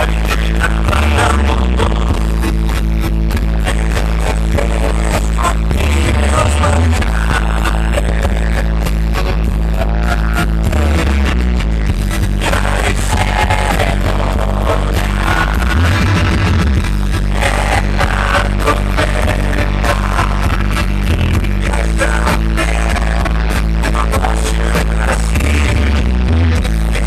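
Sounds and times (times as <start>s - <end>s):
person singing: 0.0s - 2.4s, 3.6s - 11.5s, 12.4s - 16.5s, 17.3s - 27.0s
live rock band: 0.0s - 27.0s.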